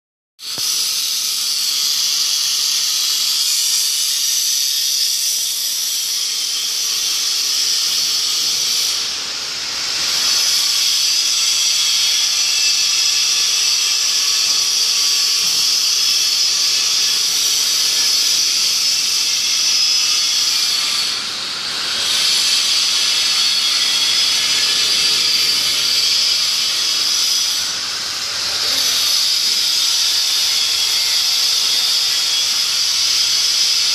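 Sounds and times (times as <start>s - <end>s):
rushing air hiss: 0.4s - 33.9s.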